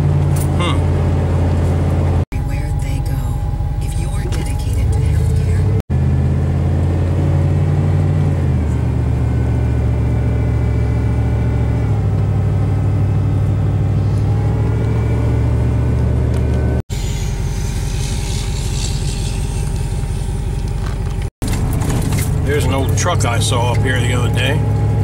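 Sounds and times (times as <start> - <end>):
truck engine drone: 0.0 - 25.0.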